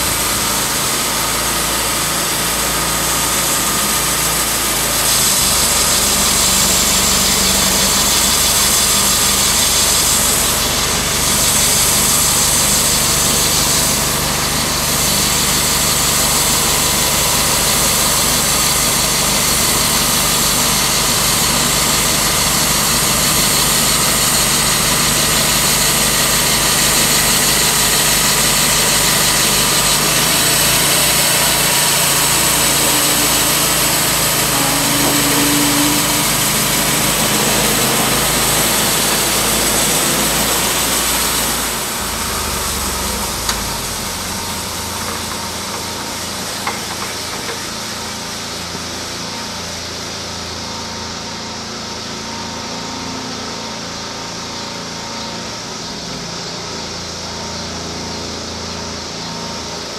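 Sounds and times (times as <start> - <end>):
sawmill gasoline engine running: 0.0 - 59.9.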